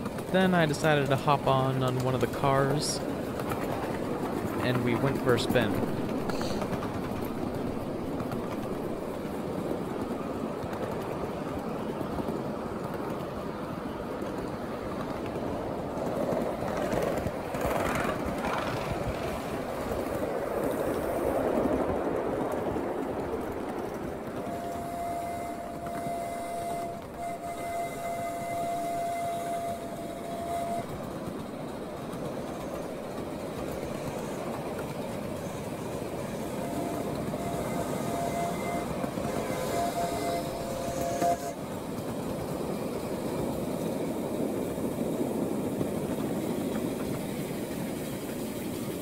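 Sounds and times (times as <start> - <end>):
train wheels clattering on track: 0.0 - 49.0.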